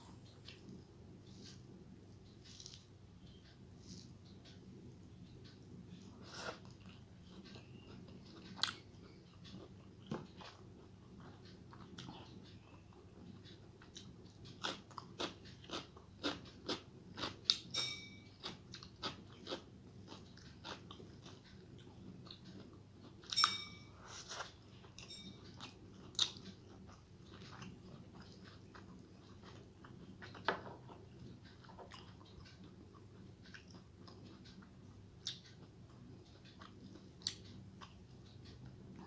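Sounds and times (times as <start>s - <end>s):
chewing with wet mouth clicks: 5.2s - 17.7s, 18.3s - 23.6s, 24.4s - 39.0s.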